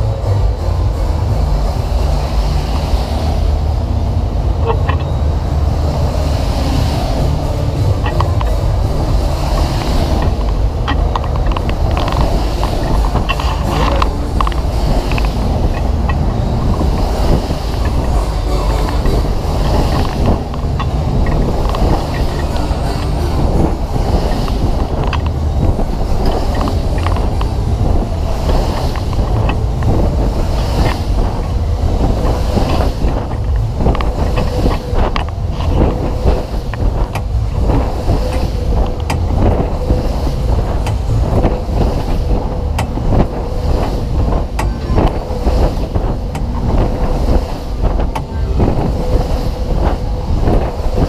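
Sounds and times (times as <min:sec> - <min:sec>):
fairground ride deep rumble: 0:00.0 - 0:51.0
wind buffeting microphone: 0:00.0 - 0:51.0.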